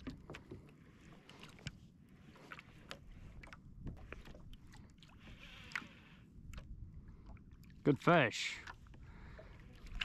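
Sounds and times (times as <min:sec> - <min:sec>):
water lapping against hull: 0:00.0 - 0:10.0.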